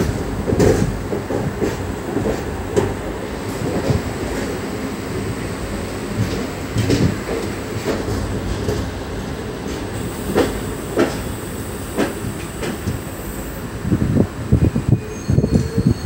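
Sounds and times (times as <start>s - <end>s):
rumble of wheels on rail: 0.0s - 16.0s.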